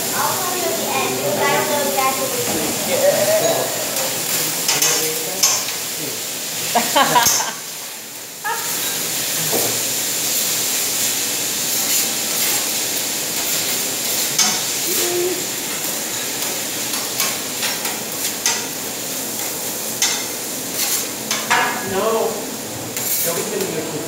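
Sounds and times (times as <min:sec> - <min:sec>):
rice sizzling on griddle: 0:00.0 - 0:24.0.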